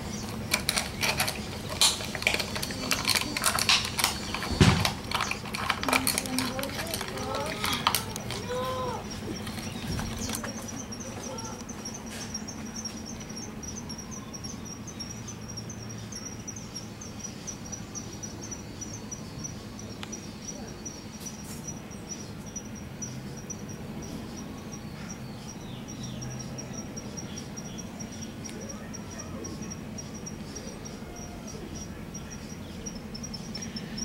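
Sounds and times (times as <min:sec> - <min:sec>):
cricket chirping: 0:00.0 - 0:34.0.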